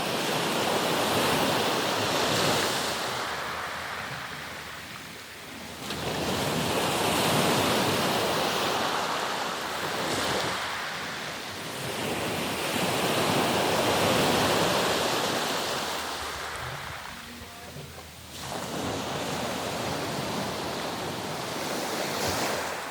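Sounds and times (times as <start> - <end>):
waves breaking on shore: 0.0 - 22.9.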